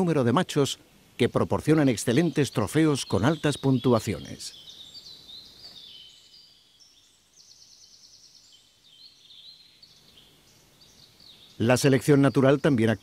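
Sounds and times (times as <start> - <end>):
background hiss: 0.0 - 13.0
birdsong: 0.0 - 13.0
bird trill: 1.6 - 13.0.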